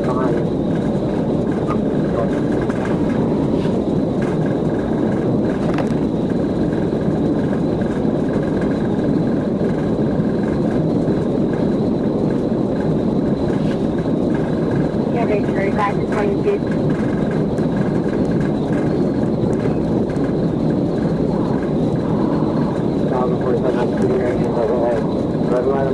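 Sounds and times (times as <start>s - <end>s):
faint high whine: 0.0s - 25.9s
vehicle cabin road noise: 0.0s - 25.9s.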